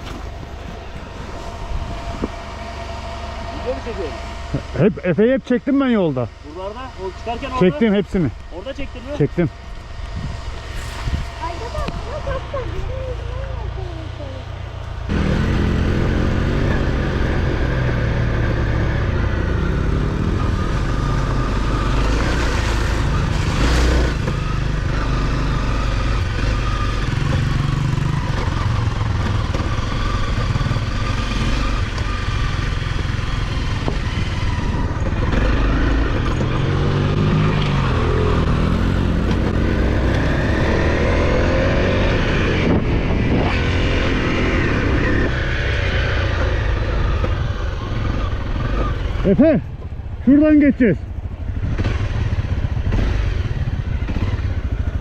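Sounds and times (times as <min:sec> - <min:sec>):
off-road motorcycle engine: 0:00.0 - 0:55.0.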